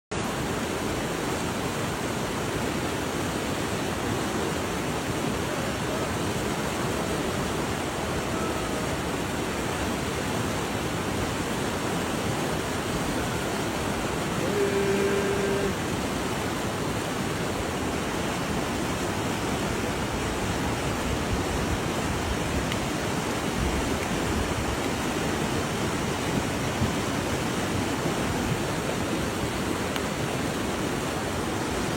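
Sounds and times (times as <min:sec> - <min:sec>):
river water rushing: 0:00.1 - 0:31.9.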